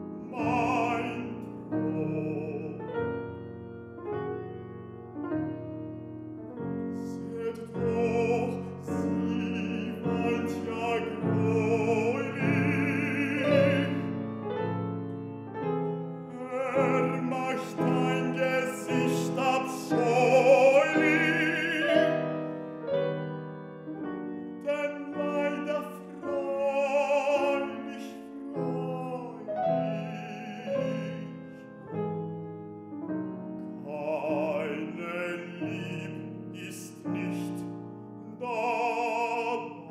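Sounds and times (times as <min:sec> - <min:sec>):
baritone classical singing: 0:00.0 - 0:39.9
grand piano: 0:00.0 - 0:39.9.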